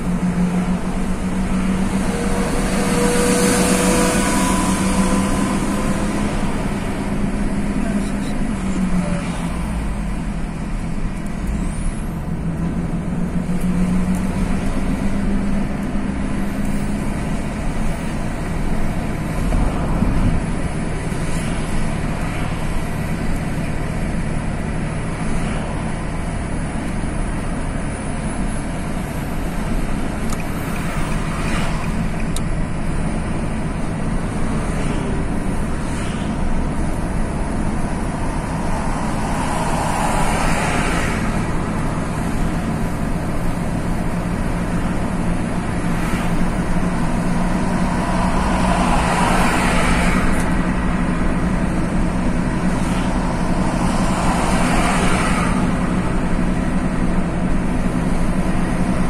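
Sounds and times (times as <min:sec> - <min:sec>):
car interior road noise: 0:00.0 - 0:59.0
vehicles passing: 0:00.0 - 0:59.0.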